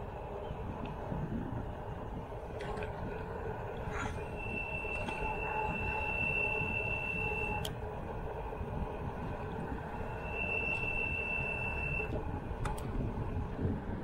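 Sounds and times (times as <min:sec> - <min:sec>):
high-pitched whine: 0:00.0 - 0:14.0
tyres rolling on road: 0:00.0 - 0:14.0
wind on microphone: 0:00.0 - 0:14.0.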